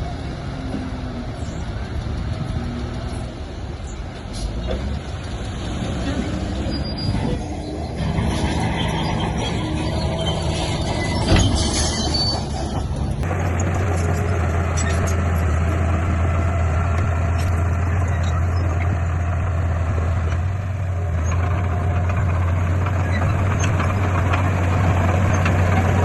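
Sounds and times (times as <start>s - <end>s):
heavy machinery diesel engines: 0.0s - 26.0s.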